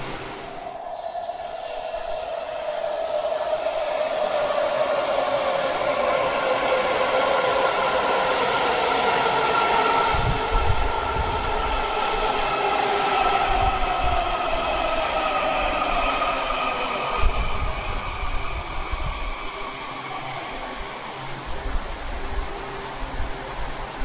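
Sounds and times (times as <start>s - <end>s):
subway train motors whining: 0.0s - 24.0s.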